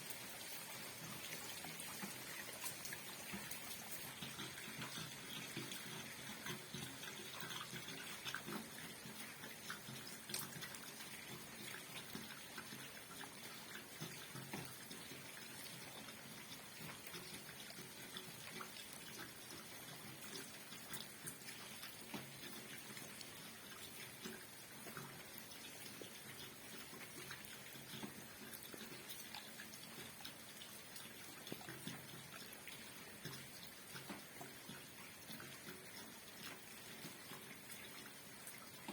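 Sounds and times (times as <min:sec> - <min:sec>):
rain falling steadily: 0:00.0 - 0:38.9.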